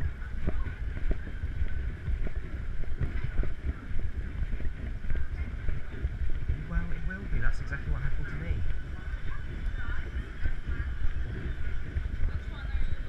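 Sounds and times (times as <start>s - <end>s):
muffled thumps: 0.0s - 13.0s.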